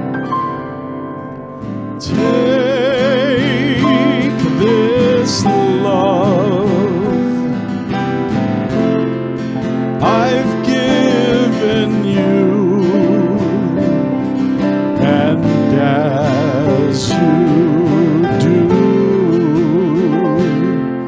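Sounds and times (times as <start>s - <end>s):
acoustic guitar accompaniment: 0.0s - 21.0s
sustained melody with vibrato: 0.0s - 21.0s.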